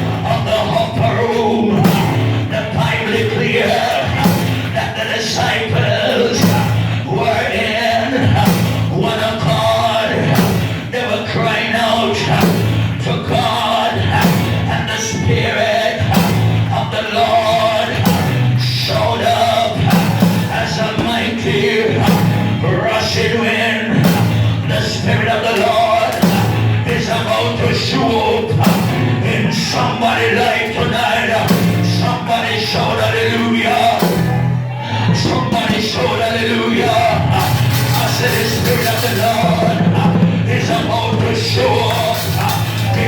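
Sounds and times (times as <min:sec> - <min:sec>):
gospel music with singing: 0:00.0 - 0:43.0.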